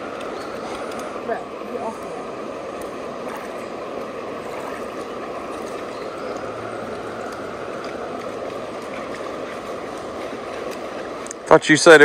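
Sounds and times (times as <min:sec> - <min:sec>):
water rushing over a dam: 0:00.0 - 0:12.0.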